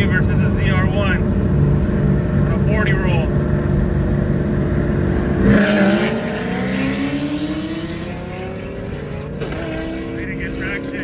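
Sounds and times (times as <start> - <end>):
car engines at full throttle: 0.0 - 11.0.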